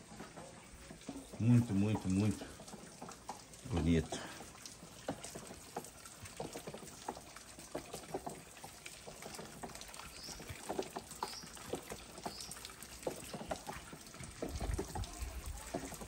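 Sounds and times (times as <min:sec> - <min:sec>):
water drips: 0:00.0 - 0:16.0
water trickling and splashing: 0:00.0 - 0:16.0.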